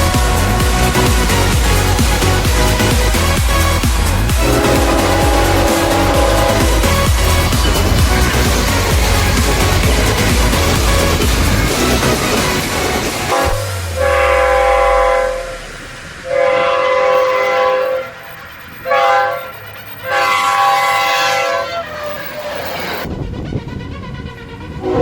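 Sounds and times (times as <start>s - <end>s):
train horn blasts: 0.0s - 3.6s, 4.4s - 10.0s, 13.3s - 22.8s, 23.4s - 25.0s
low rumble: 0.0s - 20.2s.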